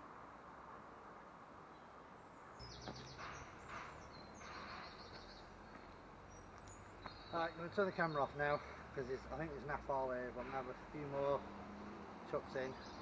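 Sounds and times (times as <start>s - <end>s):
outdoor background hiss: 0.0s - 13.0s
songbird chirping: 1.6s - 13.0s.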